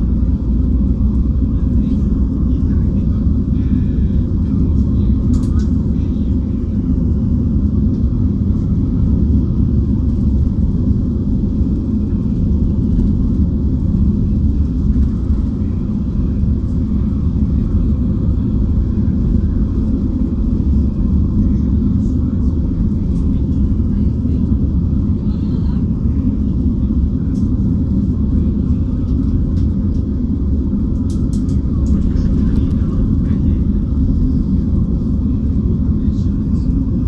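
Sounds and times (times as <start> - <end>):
coach engine and tyre rumble: 0.0 - 37.0.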